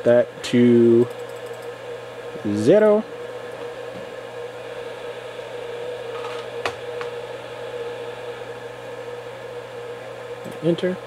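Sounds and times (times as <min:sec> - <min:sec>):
mechanical hum with held tone: 0:00.0 - 0:11.0.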